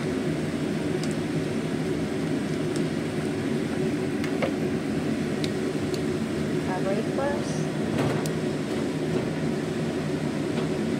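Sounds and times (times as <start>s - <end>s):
kitchen appliance humming: 0.0s - 10.9s.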